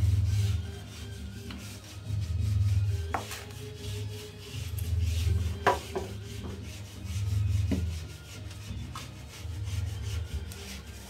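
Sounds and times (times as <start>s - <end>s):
rubbing and rumbling handling noise: 0.0s - 11.0s.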